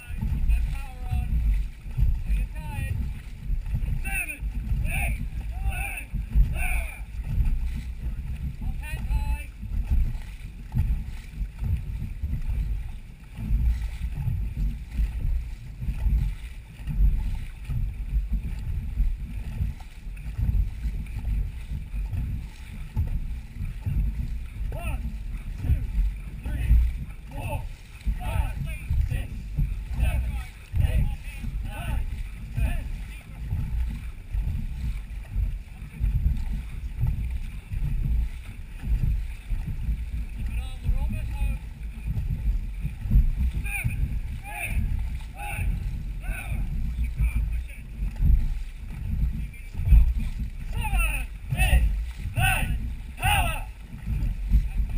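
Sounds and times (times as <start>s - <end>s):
water rumbling along hull: 0.0s - 54.9s
wind buffeting microphone: 0.0s - 54.9s.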